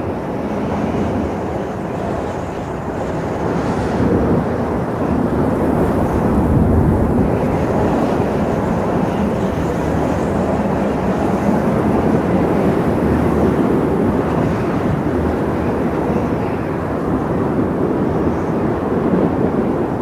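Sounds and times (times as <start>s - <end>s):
strong wind rumbling: 0.0s - 20.0s.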